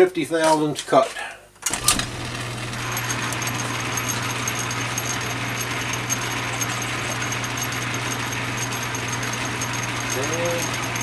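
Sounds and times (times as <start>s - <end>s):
lathe motor hum: 1.6s - 11.0s
gear train ticking: 1.7s - 11.0s.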